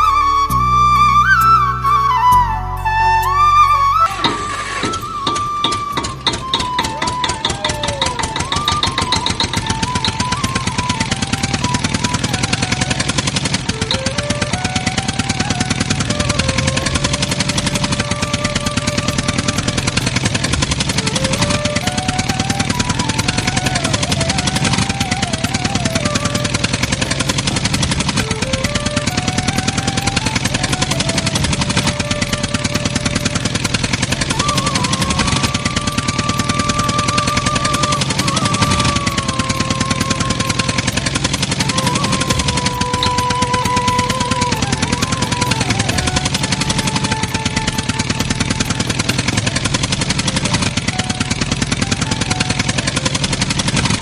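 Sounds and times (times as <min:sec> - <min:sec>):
slow melody of held tones: 0:00.0 - 0:54.0
small engine running: 0:00.0 - 0:54.0
small machine clattering: 0:04.0 - 0:54.0.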